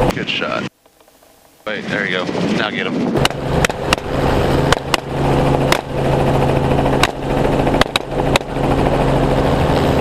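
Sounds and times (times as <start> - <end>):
helicopter flying: 0.0 - 10.0.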